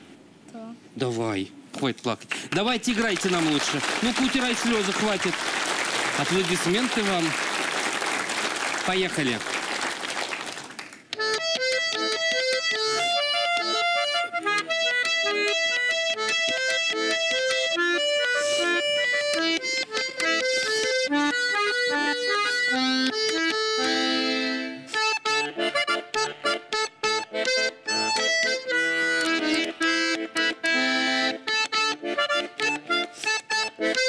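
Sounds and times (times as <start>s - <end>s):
button accordion playing: 2.5s - 34.0s.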